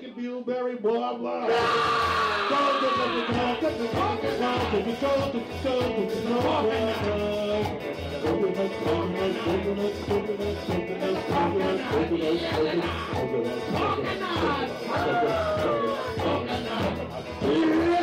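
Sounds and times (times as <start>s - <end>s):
bass line: 1.5s - 18.0s
drum kit beat: 1.5s - 18.0s.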